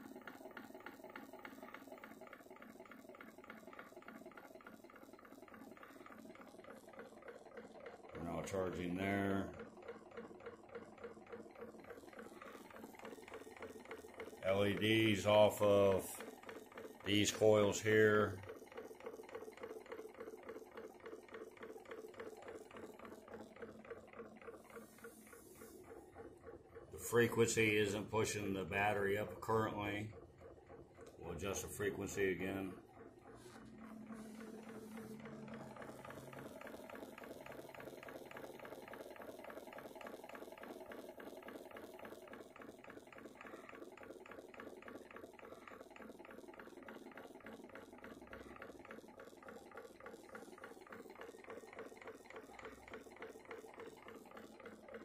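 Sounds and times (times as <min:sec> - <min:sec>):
flywheel motor faint ticking: 0:00.0 - 0:55.0.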